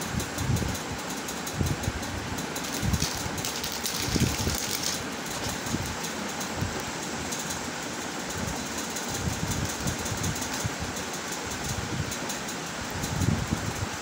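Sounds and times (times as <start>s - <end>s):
rushing background noise: 0.0s - 14.0s.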